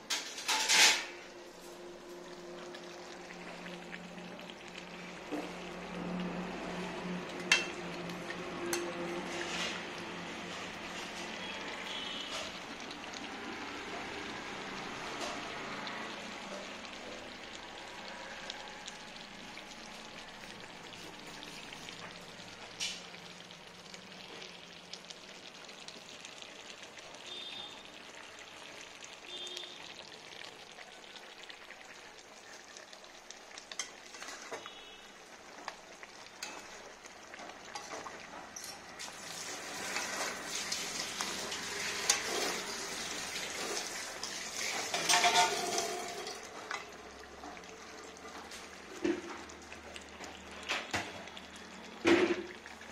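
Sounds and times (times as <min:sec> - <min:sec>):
curry sizzling in a pan: 0:00.0 - 0:52.9.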